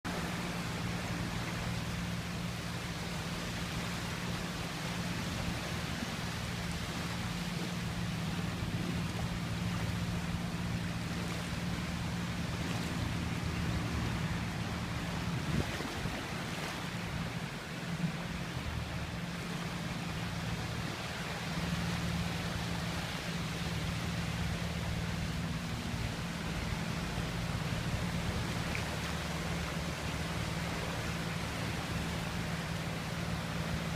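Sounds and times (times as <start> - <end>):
ocean water rushing: 0.0 - 33.9
low steady hum: 0.1 - 33.9.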